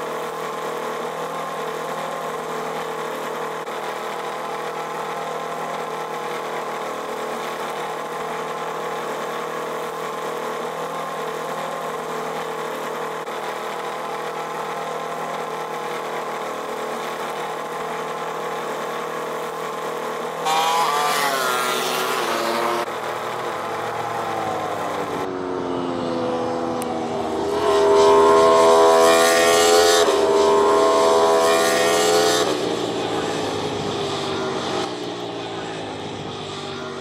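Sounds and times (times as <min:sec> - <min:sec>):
racing motorcycle engines: 0:00.0 - 0:37.0.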